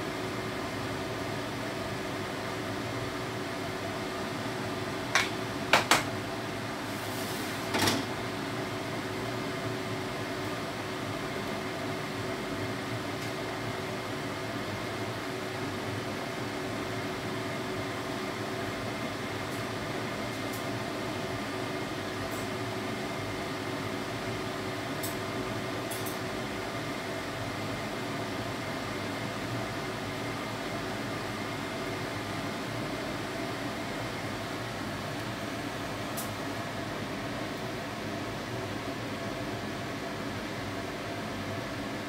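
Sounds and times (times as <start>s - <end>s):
appliance humming: 0.0s - 42.0s.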